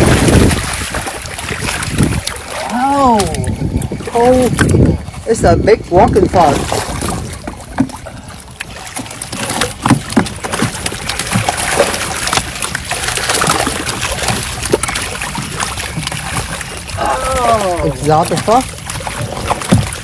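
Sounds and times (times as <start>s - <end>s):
fish splashing in water: 0.0s - 20.0s.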